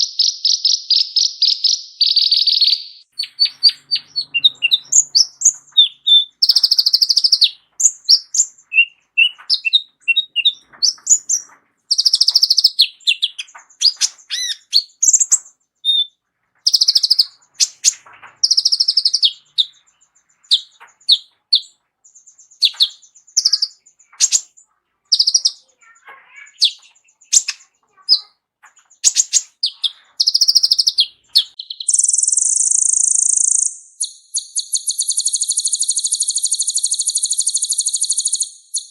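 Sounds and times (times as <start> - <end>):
sunbird singing: 0.0 - 38.9.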